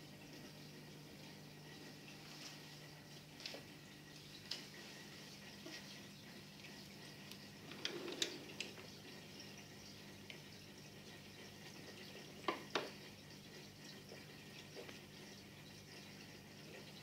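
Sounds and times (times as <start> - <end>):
aquarium air stone bubbling: 0.0 - 17.0.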